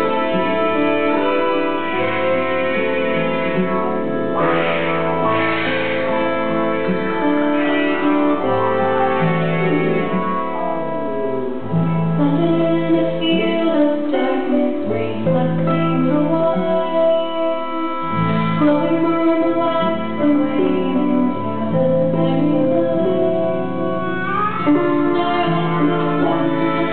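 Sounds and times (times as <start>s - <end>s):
acoustic guitar: 0.0s - 26.9s
electric guitar: 0.0s - 26.9s
fiddle: 0.0s - 26.9s.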